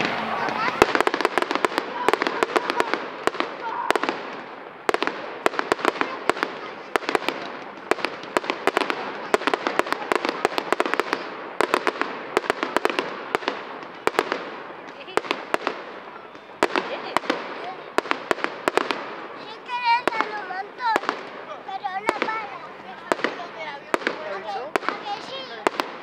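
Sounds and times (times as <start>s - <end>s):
fireworks bangs and cracks: 0.0s - 26.0s.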